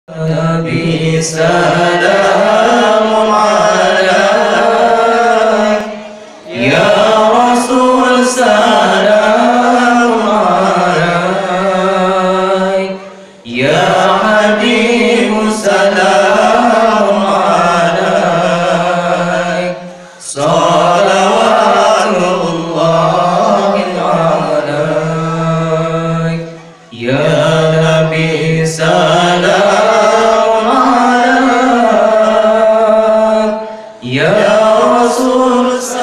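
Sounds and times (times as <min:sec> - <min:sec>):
man chanting into microphone: 0:00.0 - 0:36.0.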